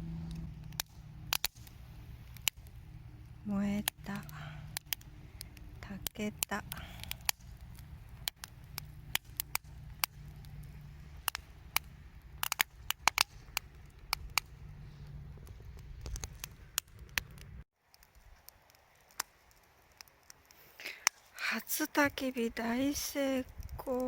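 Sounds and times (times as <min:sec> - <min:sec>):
campfire crackling and popping: 0:00.0 - 0:24.0
low fire rumble: 0:00.0 - 0:24.0.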